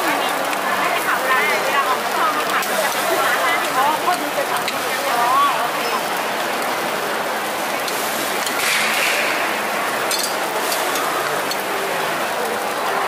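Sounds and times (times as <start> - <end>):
batter sizzling on griddle: 0.2 - 13.0.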